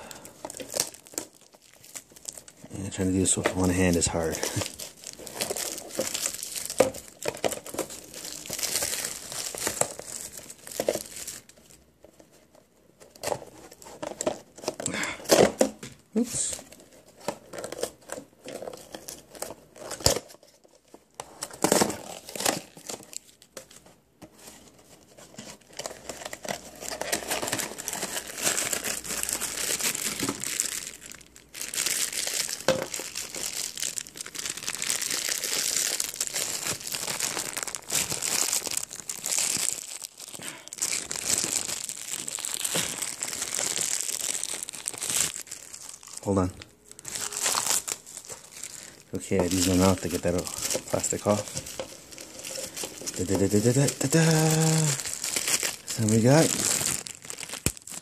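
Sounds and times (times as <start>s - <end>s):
foil bag crinkling: 0.0s - 11.9s, 21.4s - 23.8s, 25.3s - 58.0s
plastic packaging crinkling and tearing: 0.0s - 58.0s.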